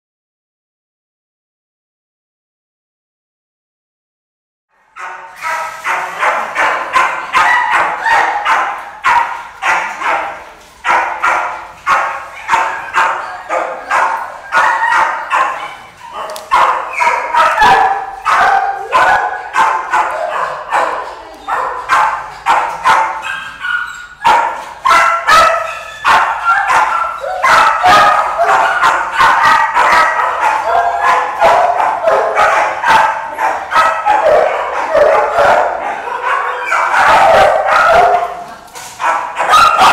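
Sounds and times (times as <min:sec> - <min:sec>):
many dogs barking: 0:04.8 - 0:39.9.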